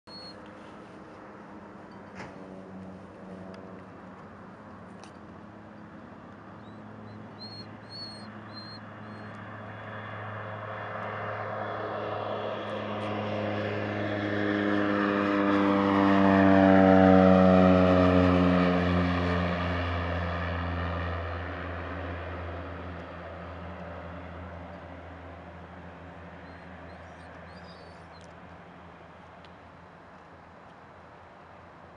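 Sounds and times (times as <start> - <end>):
turboprop plane taking off: 0.0 - 31.9.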